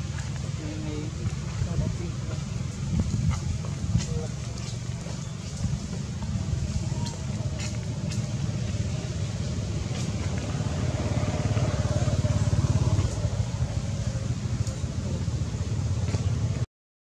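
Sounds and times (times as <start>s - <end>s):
vehicle engine rumbling: 0.0s - 16.7s.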